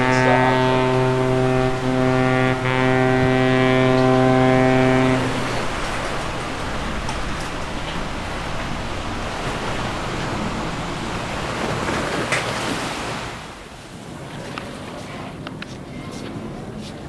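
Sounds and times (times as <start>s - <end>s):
steady rushing noise: 0.0s - 14.2s.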